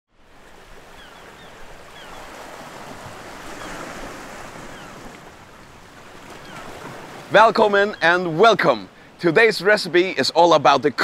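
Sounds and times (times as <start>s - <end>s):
surf on rocky shore: 0.1s - 11.0s.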